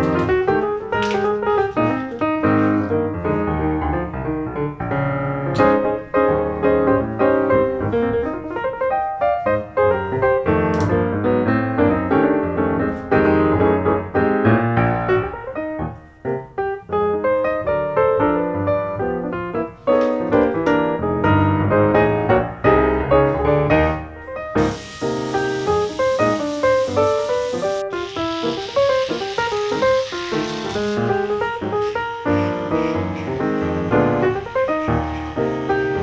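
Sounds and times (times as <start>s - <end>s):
fast piano music: 0.0s - 36.0s.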